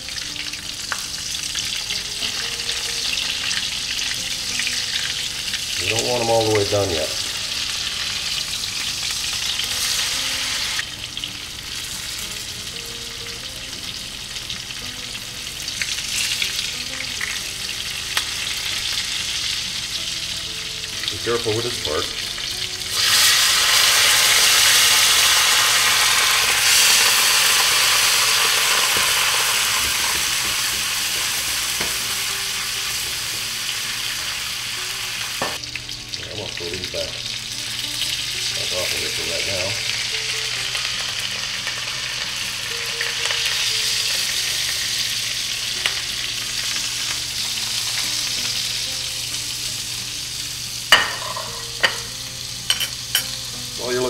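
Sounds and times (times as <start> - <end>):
chicken sizzling in a pan: 0.0 - 54.0.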